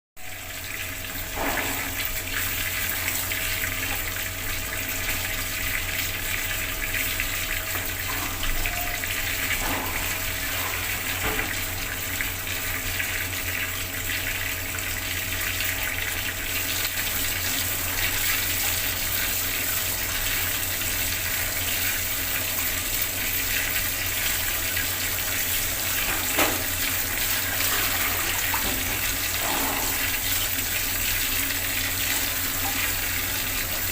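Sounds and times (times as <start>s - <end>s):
tap water running hard: 0.2s - 33.9s.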